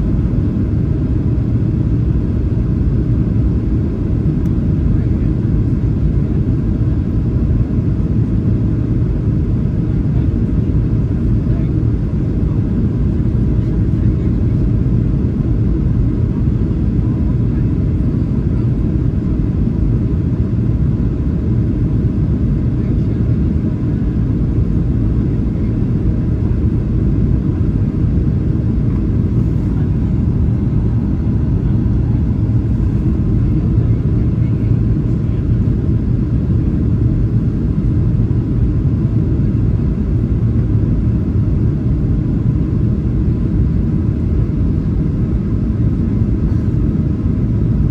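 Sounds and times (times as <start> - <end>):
airplane cabin engine rumble: 0.0 - 47.9
faint steady hum: 0.0 - 47.9.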